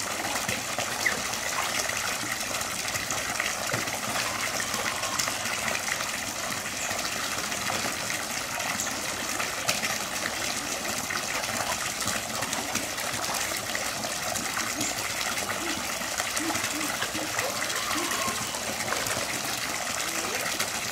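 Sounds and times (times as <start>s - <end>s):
water gushing and splashing: 0.0s - 20.9s.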